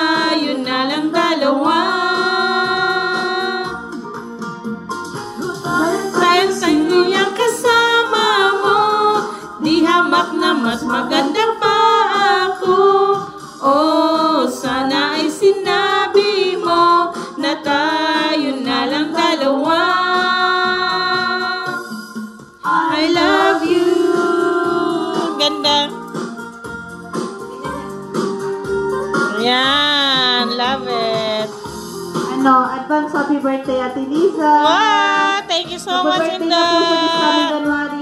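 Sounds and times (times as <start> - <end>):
woman singing through speaker: 0.0 - 3.8, 5.5 - 21.8, 22.6 - 26.0, 29.3 - 31.5, 32.3 - 38.0.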